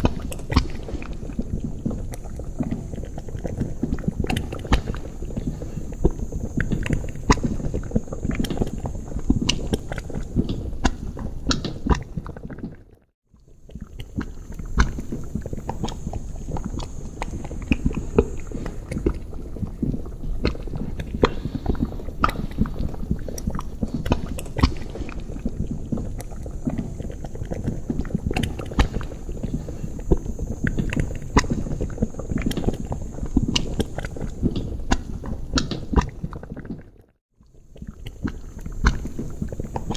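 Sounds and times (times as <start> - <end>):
thick liquid bubbling: 0.0 - 39.9.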